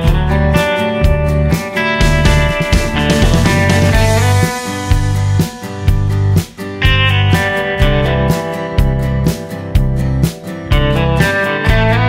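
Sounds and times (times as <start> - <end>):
guitar music over steady beat: 0.0 - 12.0.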